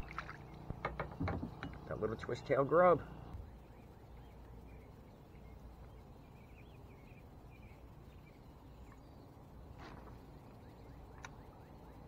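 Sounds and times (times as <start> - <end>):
faint distant bird chirps: 0.0 - 12.0
low steady background noise: 0.0 - 12.0.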